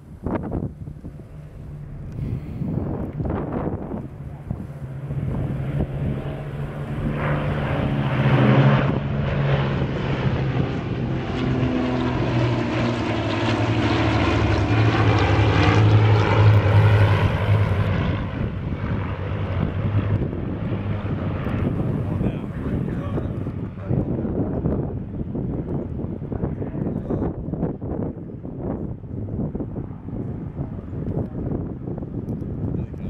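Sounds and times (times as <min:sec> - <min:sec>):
propeller planes droning past: 0:00.0 - 0:33.0.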